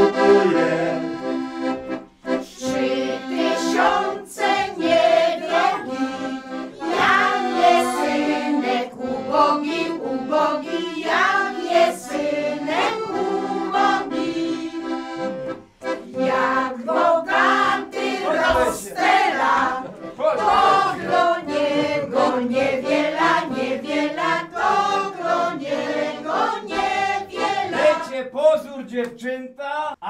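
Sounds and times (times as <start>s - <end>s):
accordion: 0.0s - 28.2s
women singing folk song: 2.3s - 28.0s.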